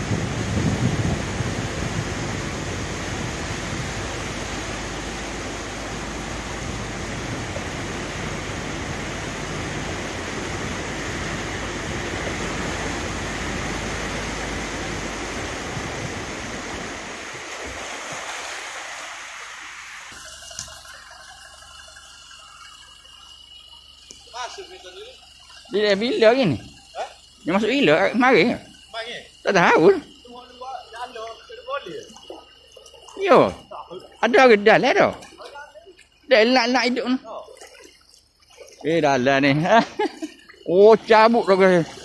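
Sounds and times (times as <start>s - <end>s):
floodwater rushing against vehicle: 0.0s - 42.0s.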